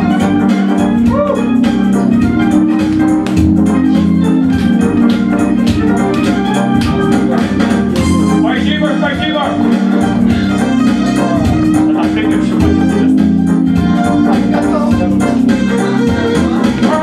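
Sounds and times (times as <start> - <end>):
organ-like keyboard chords: 0.0 - 17.0
steady drum beat: 0.0 - 17.0.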